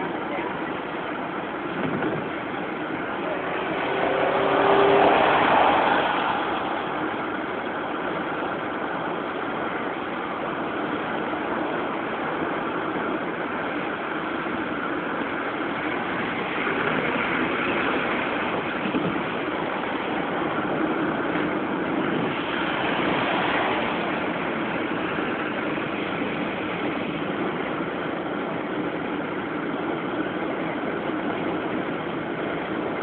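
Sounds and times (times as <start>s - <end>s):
car tyre and wind noise: 0.0s - 33.0s.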